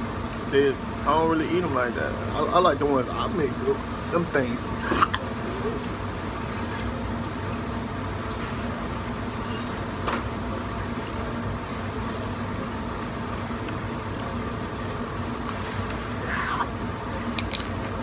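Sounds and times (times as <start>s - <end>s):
mechanical hum and hiss: 0.0s - 18.0s.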